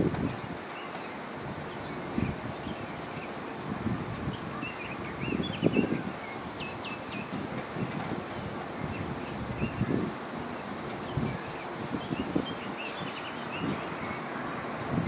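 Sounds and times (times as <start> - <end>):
birds chirping: 0.0 - 15.0
wind buffeting microphone: 0.0 - 15.0.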